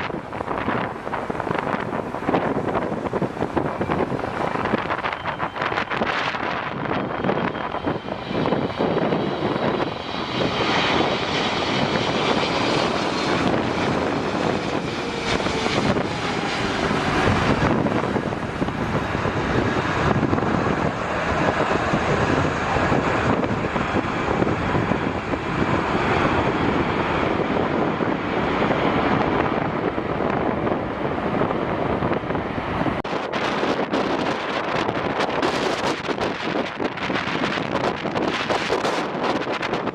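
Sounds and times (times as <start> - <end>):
jet airliner engine rush: 0.0 - 39.9.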